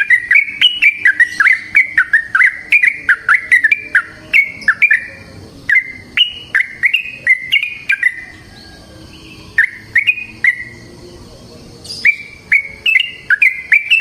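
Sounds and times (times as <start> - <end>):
bird singing bubbling notes: 0.0 - 14.0.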